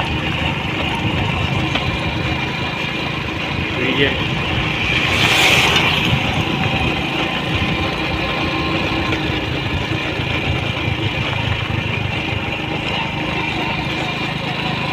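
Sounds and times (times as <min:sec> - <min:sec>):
wind noise: 0:00.0 - 0:13.1
motorcycle engine running: 0:00.0 - 0:14.9
road noise: 0:00.0 - 0:14.9.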